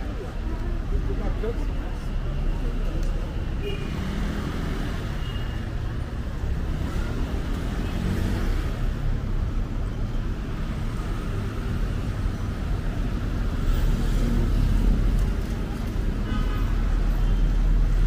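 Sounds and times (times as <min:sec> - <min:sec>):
cars driving by: 0:00.0 - 0:18.0.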